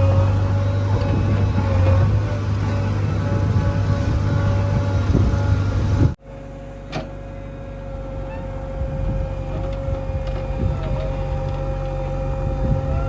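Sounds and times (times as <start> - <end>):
diesel engine running: 0.0 - 13.0
steady whine: 0.0 - 13.0.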